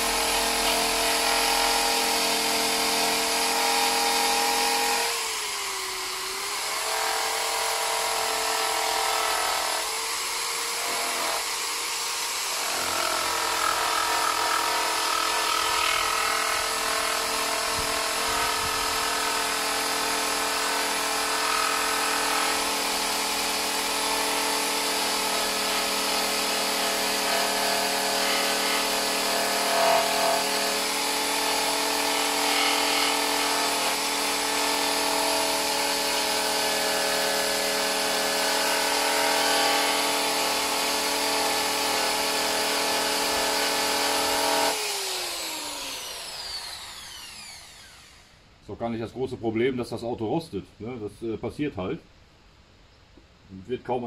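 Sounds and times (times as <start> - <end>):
electric drill abrasive disc on metal: 0.0 - 48.4.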